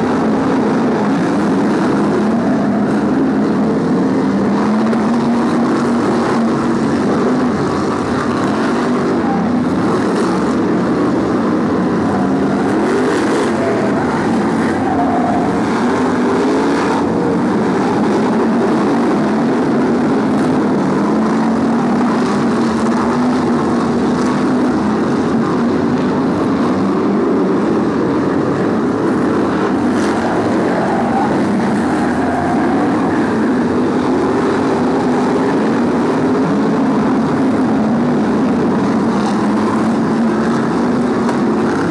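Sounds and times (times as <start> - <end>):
racing car engines: 0.0 - 41.9.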